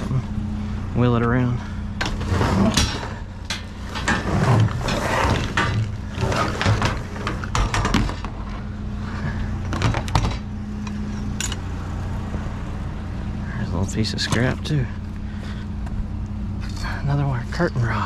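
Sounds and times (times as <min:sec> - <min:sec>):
steady low hum: 0:00.0 - 0:18.0
junk clattering and knocking: 0:01.1 - 0:12.5, 0:14.0 - 0:18.0.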